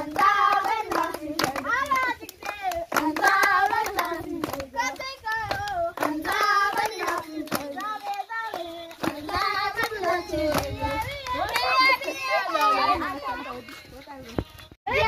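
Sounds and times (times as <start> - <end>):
children singing: 0.0 - 5.2, 5.8 - 13.4
hands clapping: 0.0 - 13.0.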